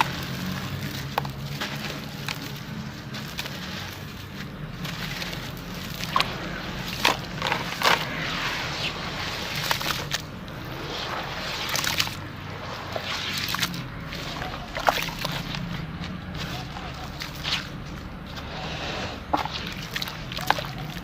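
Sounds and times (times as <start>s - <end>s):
crumbly crackle: 0.0s - 21.0s
wet sloshing: 0.0s - 21.0s.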